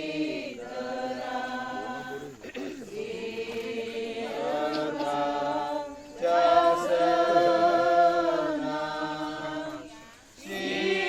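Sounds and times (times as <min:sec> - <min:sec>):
group singing unaccompanied hymn: 0:00.0 - 0:11.0.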